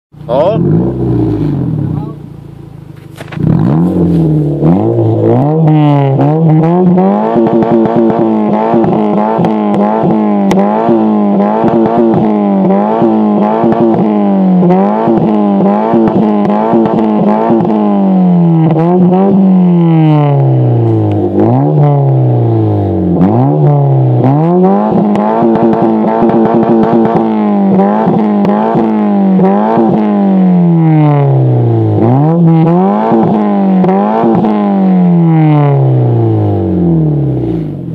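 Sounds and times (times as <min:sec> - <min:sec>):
car engine revving: 0:00.2 - 0:37.9.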